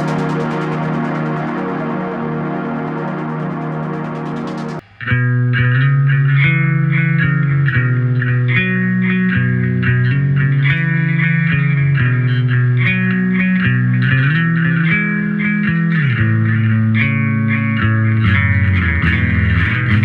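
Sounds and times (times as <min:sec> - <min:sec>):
bass guitar with delay: 0:00.0 - 0:20.0.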